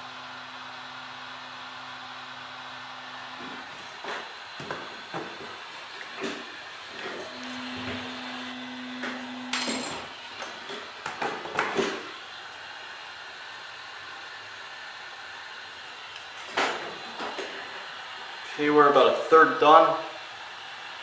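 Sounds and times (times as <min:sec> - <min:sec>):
heat gun blowing: 0:02.3 - 0:21.0.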